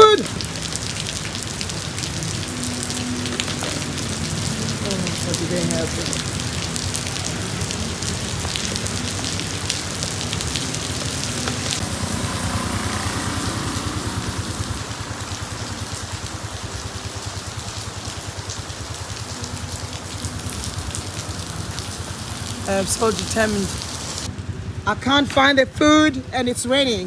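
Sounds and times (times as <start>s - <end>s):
rain falling: 0.0s - 24.8s
motorcycle engine running: 0.6s - 27.0s.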